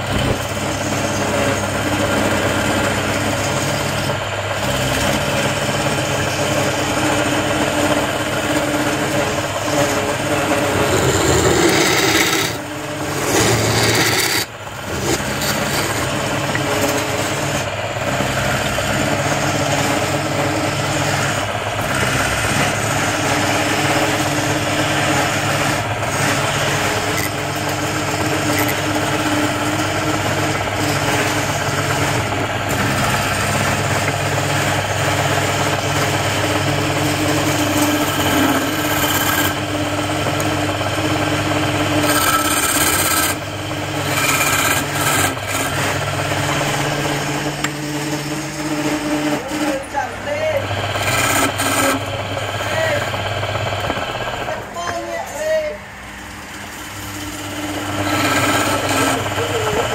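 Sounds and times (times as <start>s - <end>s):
chisel scraping spinning wood: 0.0s - 59.9s
lathe motor humming: 0.0s - 59.9s.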